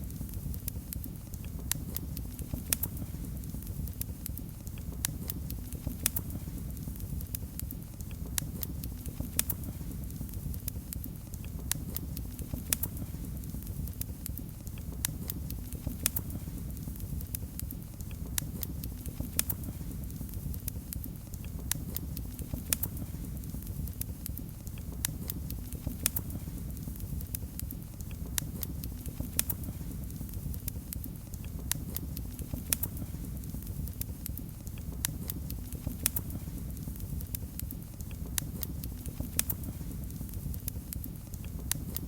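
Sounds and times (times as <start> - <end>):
wood fire crackling and popping: 0.0 - 42.0.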